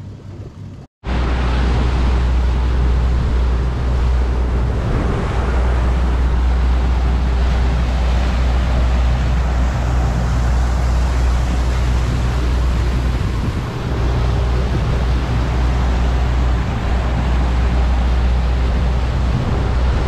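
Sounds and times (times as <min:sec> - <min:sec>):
outboard motor running: 0:00.0 - 0:20.0
water rushing along hull: 0:00.0 - 0:20.0.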